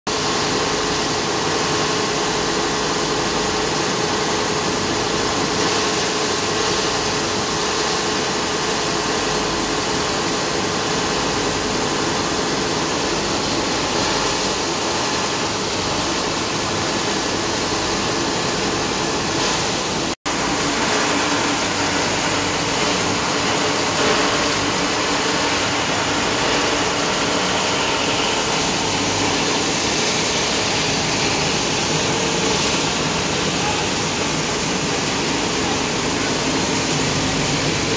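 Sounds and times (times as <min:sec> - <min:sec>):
steady machine hum: 0:00.2 - 0:37.9.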